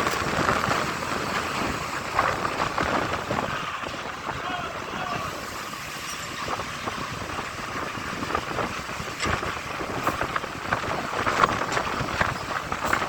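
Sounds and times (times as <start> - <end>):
diesel trucks running: 0.0 - 13.0.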